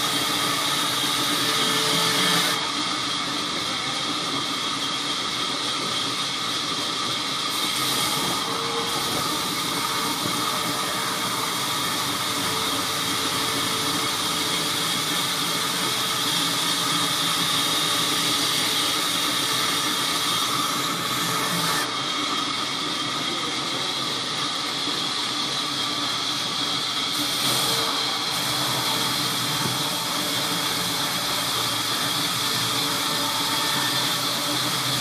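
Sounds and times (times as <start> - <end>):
band saw cutting wood: 0.0 - 6.0, 6.7 - 25.6, 26.2 - 35.0.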